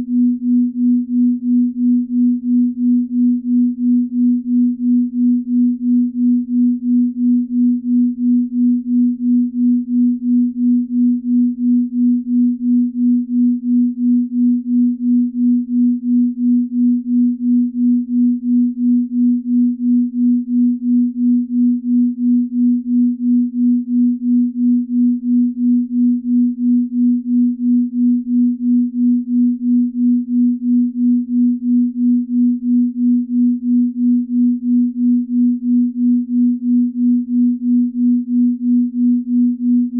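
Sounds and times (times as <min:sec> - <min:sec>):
pulsing electronic sine tone: 0:00.0 - 0:39.9.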